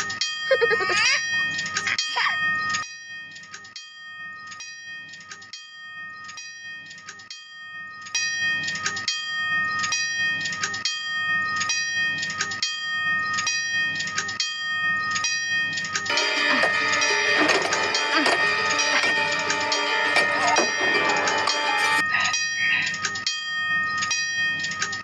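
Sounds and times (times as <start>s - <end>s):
railroad crossing bell ringing: 0.0s - 25.0s.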